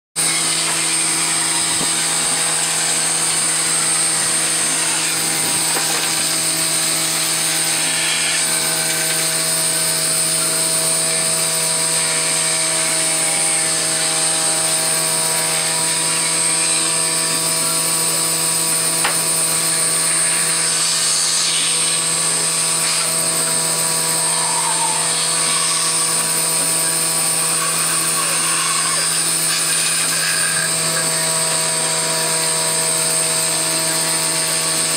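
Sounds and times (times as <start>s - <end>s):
band saw cutting wood: 0.2s - 34.9s.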